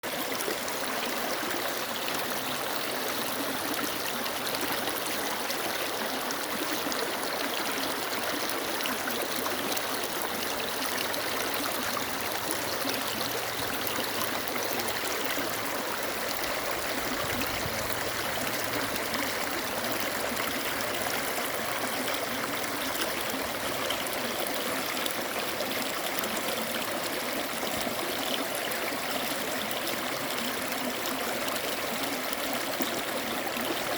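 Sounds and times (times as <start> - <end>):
stream splashing over rocks: 0.0 - 33.9.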